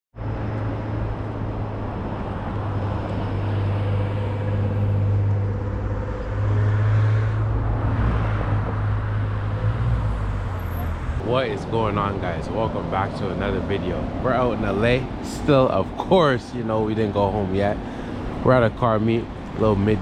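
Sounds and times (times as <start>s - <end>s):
outdoor background noise: 0.1s - 20.0s.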